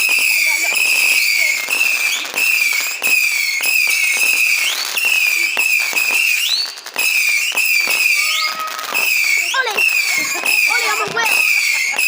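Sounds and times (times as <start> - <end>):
firework cracks and pops: 0.0 - 12.0
whistling firework: 0.0 - 12.0.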